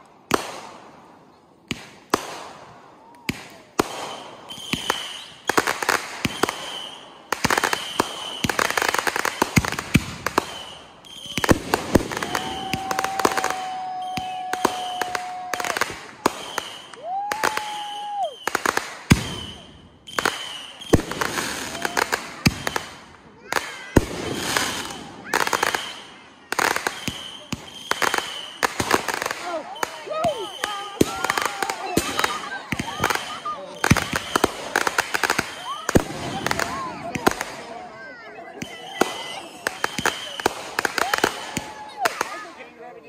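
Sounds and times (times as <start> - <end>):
firework bangs and crackling: 0.0 - 43.0
firework whistle: 3.0 - 23.0, 24.2 - 37.6, 38.4 - 42.2.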